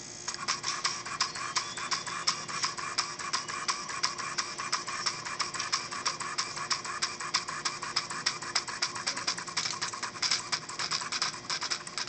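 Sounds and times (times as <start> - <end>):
pen plotter clicking and ticking: 0.3 - 12.0.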